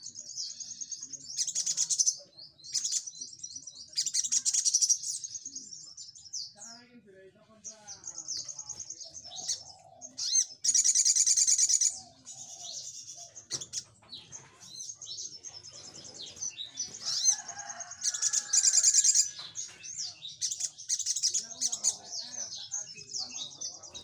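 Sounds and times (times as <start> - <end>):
bird chirps and twitters: 0.0 - 24.0.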